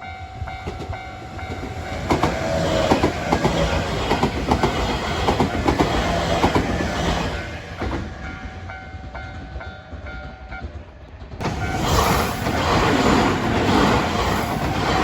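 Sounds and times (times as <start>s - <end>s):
train wheels clattering over rail joints: 0.5s - 15.0s.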